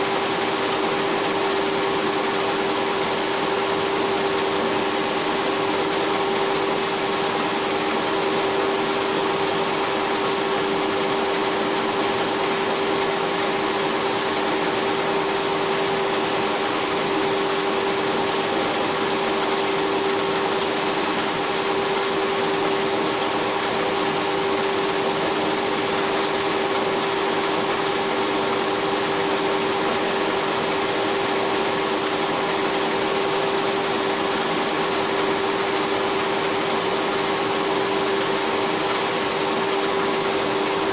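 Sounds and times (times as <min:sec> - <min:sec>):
lathe running with whine: 0:00.0 - 0:40.9.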